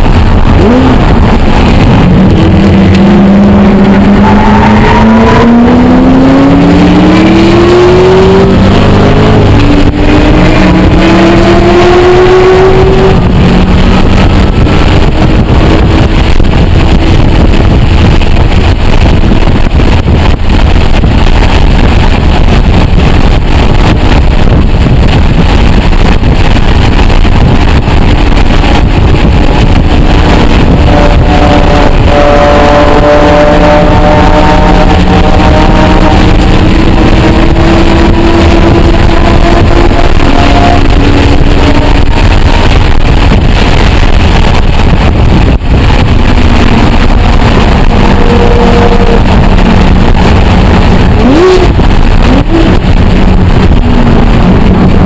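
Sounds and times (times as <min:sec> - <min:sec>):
car engine under load: 0:00.0 - 0:55.0
road noise: 0:00.0 - 0:55.0
wind noise: 0:00.0 - 0:55.0.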